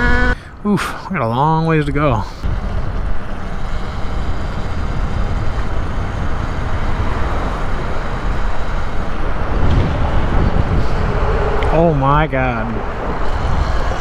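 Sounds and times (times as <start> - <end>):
wind on microphone: 2.4 - 14.0.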